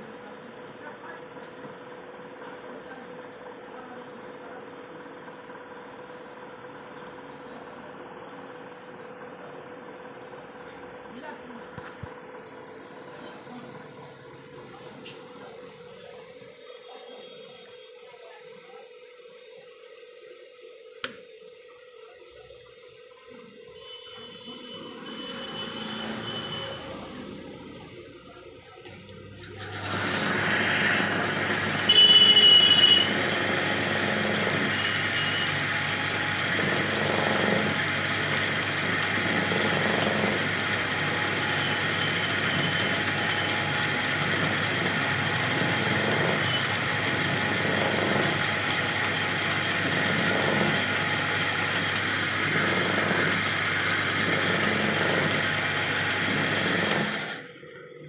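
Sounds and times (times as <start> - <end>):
winding machine motor hum: 0.0 - 58.0.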